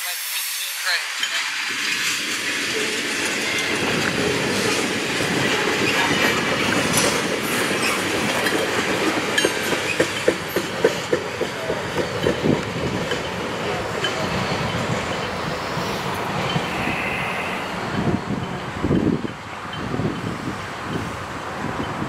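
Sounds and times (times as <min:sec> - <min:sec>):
train wheels rumbling on rails: 0:00.9 - 0:22.0.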